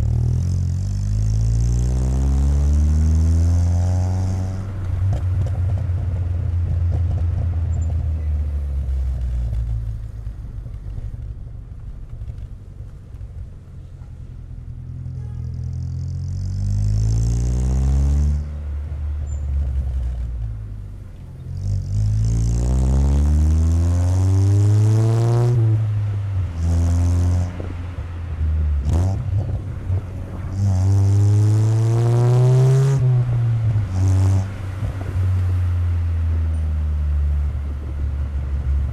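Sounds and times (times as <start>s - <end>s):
car exhaust engine revving: 0.0s - 10.2s, 14.6s - 38.9s.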